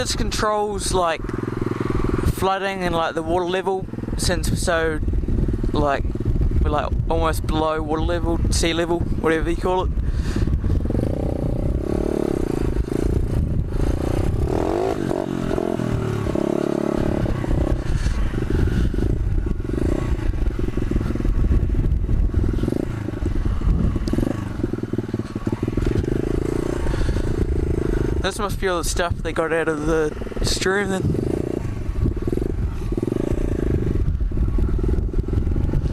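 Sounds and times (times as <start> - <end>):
motorbike engine running: 0.0 - 35.9
wind buffeting microphone: 0.0 - 35.9.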